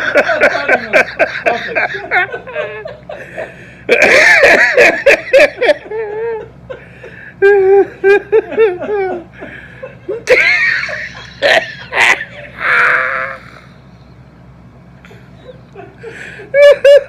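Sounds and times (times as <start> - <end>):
people laughing loudly: 0.0 - 13.6, 15.3 - 17.0.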